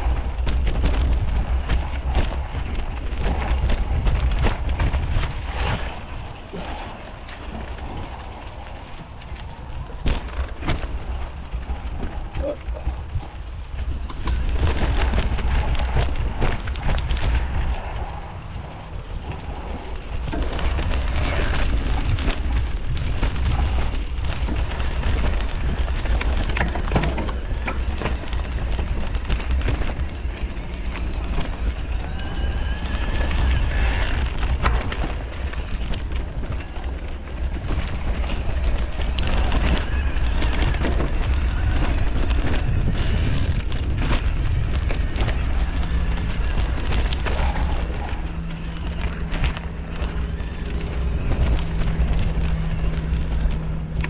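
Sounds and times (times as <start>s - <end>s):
bike rattling over bumps: 0.0s - 54.0s
tyres rolling over ground: 0.0s - 54.0s
wind buffeting microphone: 0.0s - 54.0s.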